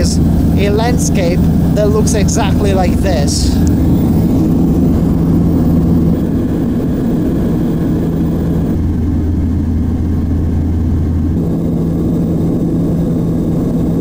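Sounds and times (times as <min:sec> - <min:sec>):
turboprop cabin drone: 0:00.0 - 0:14.0.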